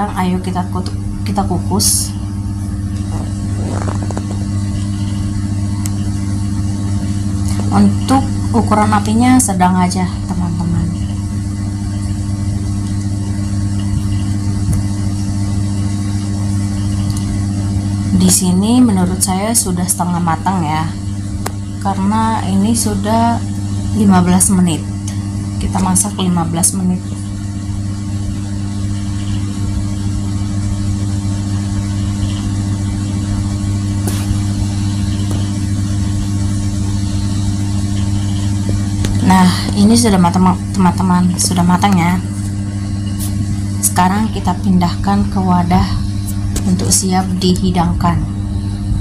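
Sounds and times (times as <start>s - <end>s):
low hum with buzz: 0.0s - 49.0s.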